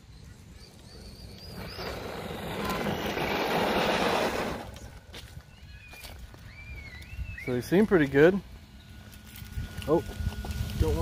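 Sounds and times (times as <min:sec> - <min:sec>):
electric drivetrain whine: 0:00.1 - 0:11.0
tires on dirt: 0:00.4 - 0:11.0.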